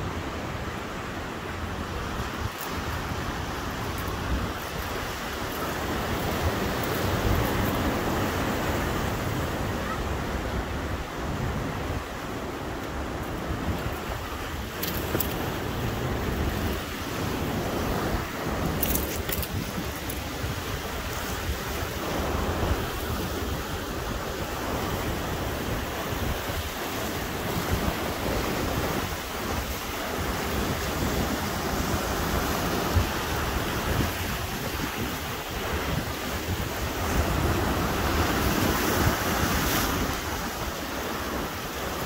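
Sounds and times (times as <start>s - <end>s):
sea surf breaking on rocks: 0.0s - 42.0s
wind buffeting microphone: 0.0s - 42.0s.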